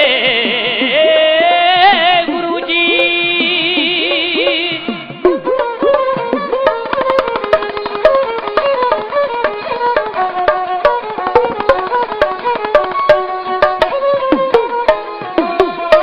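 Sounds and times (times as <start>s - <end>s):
sarangi melody: 0.0s - 16.0s
small hand drum strokes: 2.9s - 16.0s.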